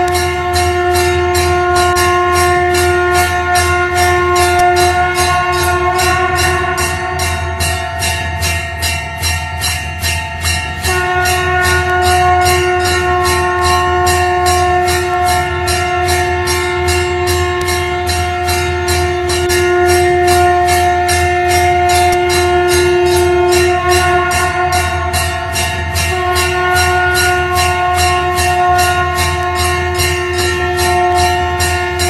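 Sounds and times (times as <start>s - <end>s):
conch shell blown: 0.0s - 9.0s, 10.4s - 32.0s
temple bell rung rapidly: 0.0s - 32.0s.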